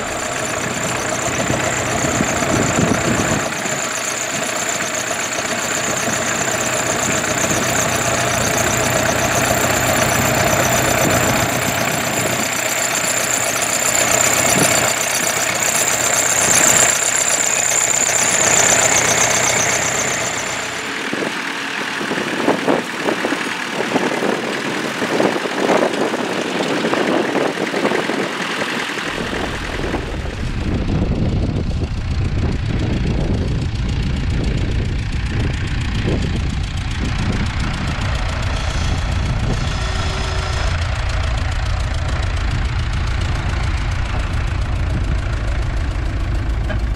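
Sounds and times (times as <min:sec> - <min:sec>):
tractor engines running: 0:00.0 - 0:46.9.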